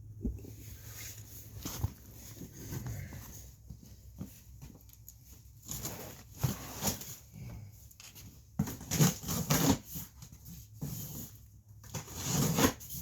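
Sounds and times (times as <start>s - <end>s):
cardboard box rustling and scraping: 0.4s - 13.0s.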